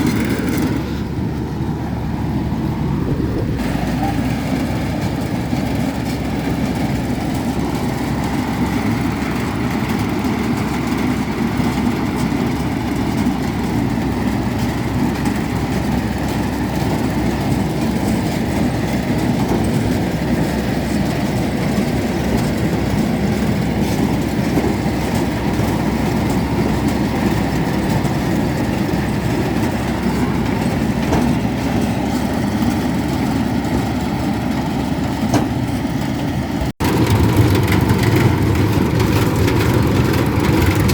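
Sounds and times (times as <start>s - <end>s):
tractor and corn picker running: 0.0s - 40.9s.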